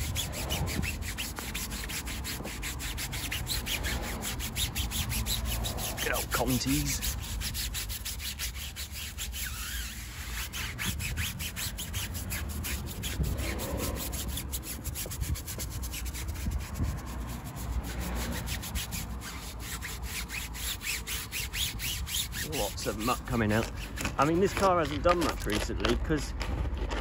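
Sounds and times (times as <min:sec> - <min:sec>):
brush scrubbing wet tyre: 0:00.0 - 0:27.0.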